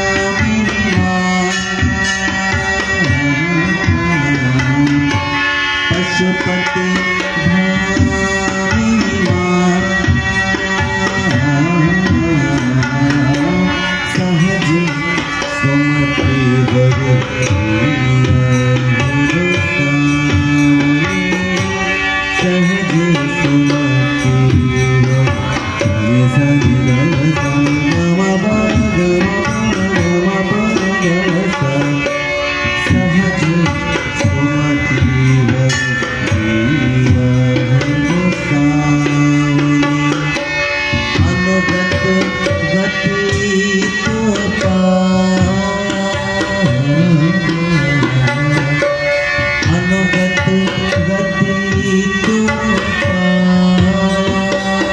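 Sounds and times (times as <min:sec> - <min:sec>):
harmonium chords: 0:00.0 - 0:54.9
man singing: 0:00.0 - 0:54.9
tabla rhythm: 0:00.0 - 0:54.9.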